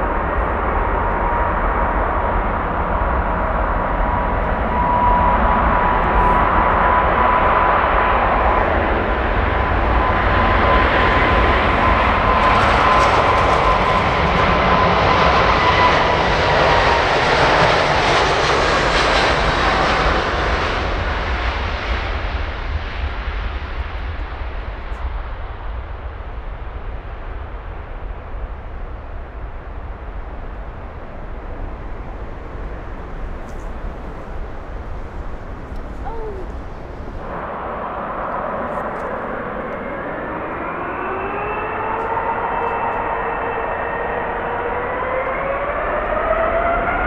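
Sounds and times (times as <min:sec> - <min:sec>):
jet airliner passing: 0:00.0 - 0:47.0.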